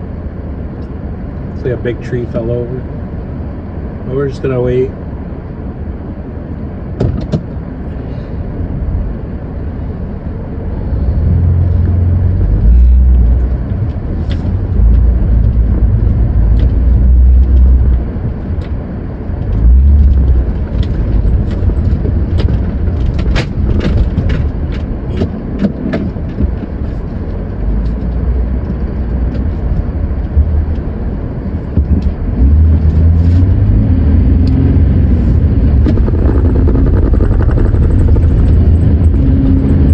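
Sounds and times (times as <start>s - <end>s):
van rumble from inside: 0.0s - 39.9s.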